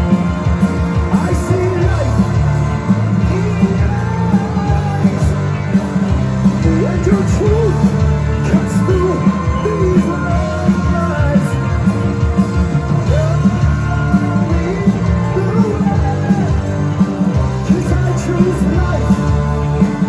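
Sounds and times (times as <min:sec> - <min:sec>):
bass guitar: 0:00.0 - 0:20.0
distorted electric guitars: 0:00.0 - 0:20.0
drums: 0:00.0 - 0:20.0.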